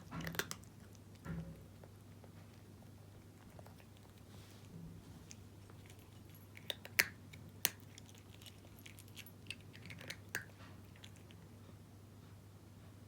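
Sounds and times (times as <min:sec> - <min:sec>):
cat crunching dry kibble: 0:00.0 - 0:11.5.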